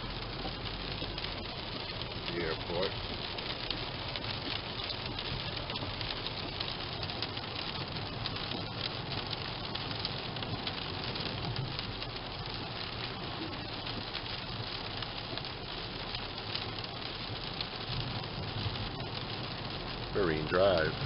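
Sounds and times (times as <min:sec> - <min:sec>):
engine and road noise: 0:00.0 - 0:21.0
rain ticking on a car windshield: 0:00.0 - 0:21.0.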